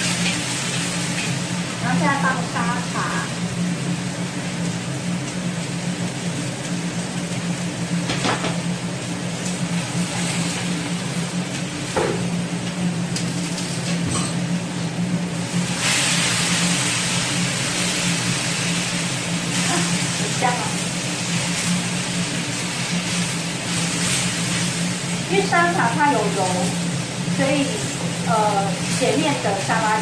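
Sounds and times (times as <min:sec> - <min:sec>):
cabbage stir-frying in a wok: 0:00.0 - 0:30.0
low kitchen hum: 0:00.0 - 0:30.0
vegetables sizzling: 0:00.0 - 0:30.0.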